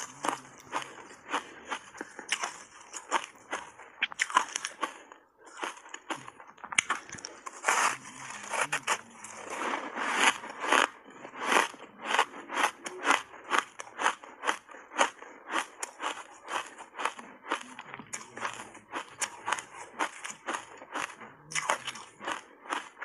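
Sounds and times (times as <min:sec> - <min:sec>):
ice being crunched and chewed: 0:00.0 - 0:23.0.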